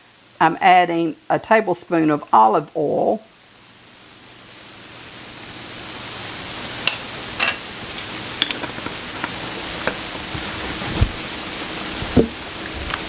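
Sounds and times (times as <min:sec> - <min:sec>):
butter and oil sizzling in skillet: 0:00.0 - 0:13.0.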